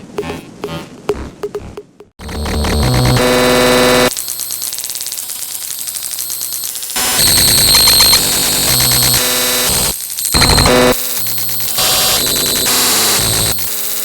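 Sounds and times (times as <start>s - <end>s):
harsh electronic buzzing tones: 0.2s - 14.0s
static: 2.2s - 14.0s.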